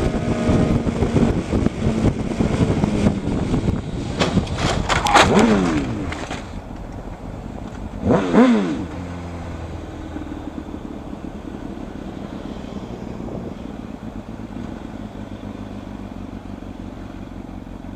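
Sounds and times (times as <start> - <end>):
low engine and road hum: 0.0 - 17.9
vehicle engines passing: 0.0 - 17.9.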